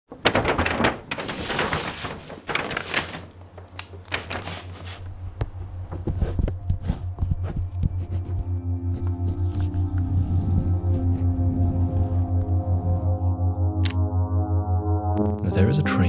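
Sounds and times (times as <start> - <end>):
paper map rustling: 0.1 - 13.3.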